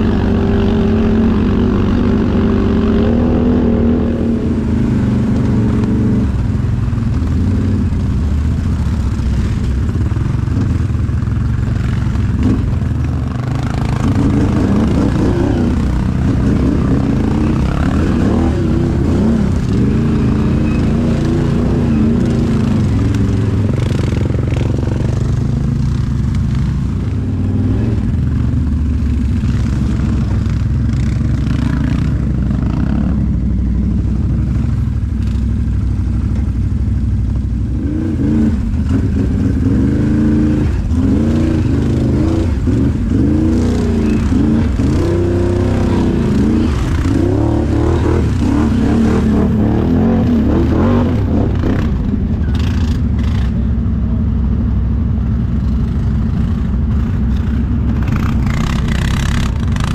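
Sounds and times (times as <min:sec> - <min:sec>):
atv engine revving: 0:00.0 - 0:36.6, 0:37.2 - 0:53.9, 0:54.7 - 0:59.9.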